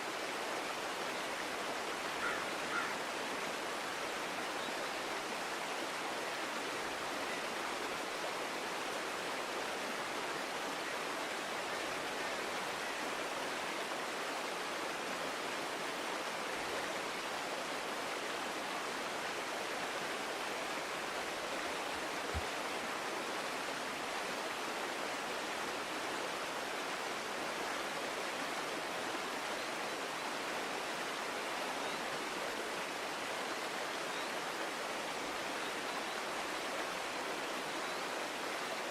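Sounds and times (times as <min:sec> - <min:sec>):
forest creek running: 0:00.0 - 0:38.9.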